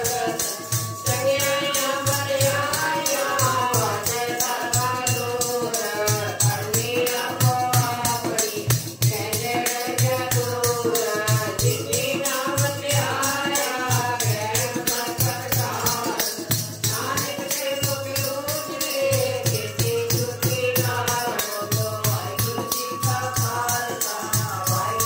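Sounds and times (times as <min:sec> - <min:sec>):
women singing a hymn: 0:00.0 - 0:25.0.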